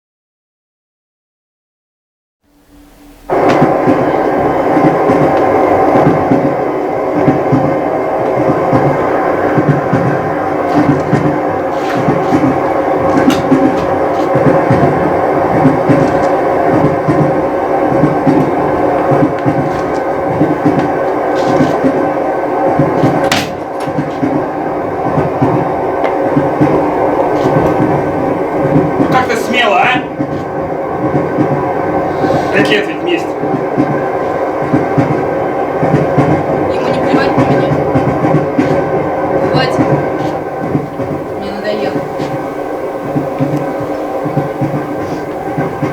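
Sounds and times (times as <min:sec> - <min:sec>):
train rumbling on rails: 0:02.4 - 0:45.9
train wheel knocks: 0:03.4 - 0:45.9.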